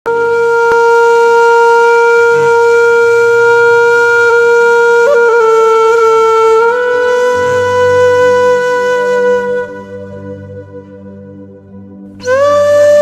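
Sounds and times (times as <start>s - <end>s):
wind instrument holding long note: 0.1s - 13.0s.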